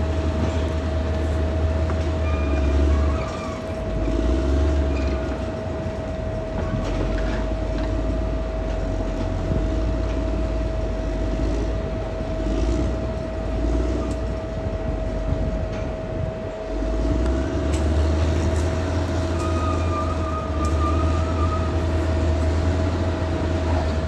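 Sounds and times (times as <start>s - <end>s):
bulldozer diesel engine rumbling: 0.0s - 24.0s
steel tracks clattering: 0.0s - 24.0s.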